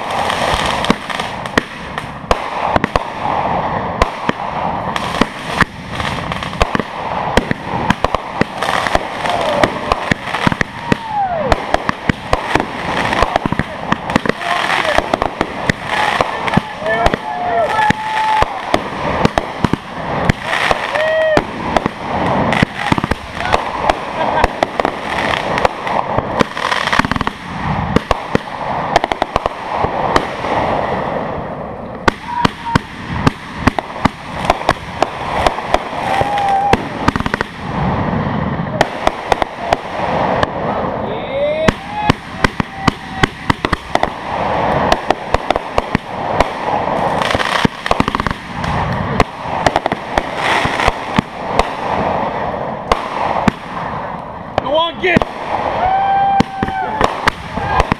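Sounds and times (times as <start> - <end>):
fireworks bangs and crackles: 0.0 - 57.9.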